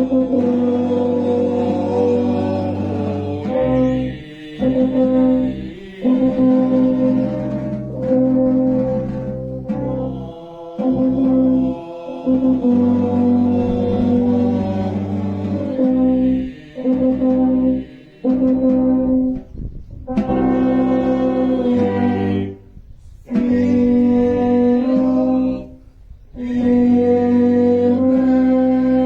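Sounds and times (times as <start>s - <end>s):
brass band playing solemn piece: 0.0s - 29.0s.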